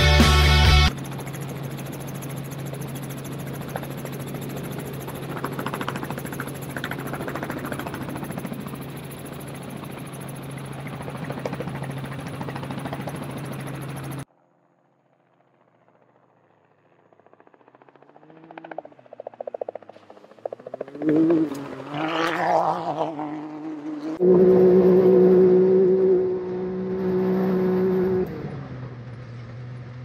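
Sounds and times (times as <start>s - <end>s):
helicopter rotor chopping: 0.0s - 14.3s, 15.0s - 28.3s.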